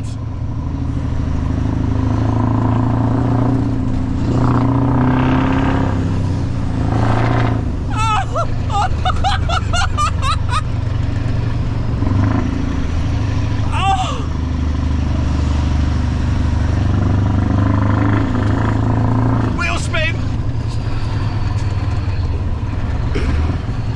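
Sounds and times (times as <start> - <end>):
diesel truck engine running loudly: 0.0 - 23.9.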